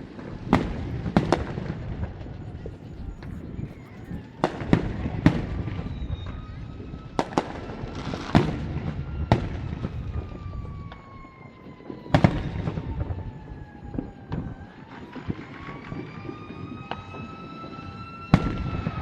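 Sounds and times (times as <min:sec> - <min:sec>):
fireworks banging: 0:00.0 - 0:19.0
siren wailing: 0:00.0 - 0:19.0.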